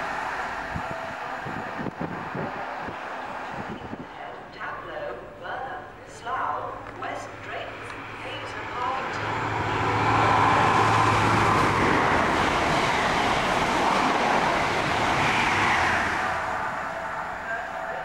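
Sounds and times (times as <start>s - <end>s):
train coaches rumbling on rails: 0.0s - 18.0s
train engine hum: 0.0s - 18.0s.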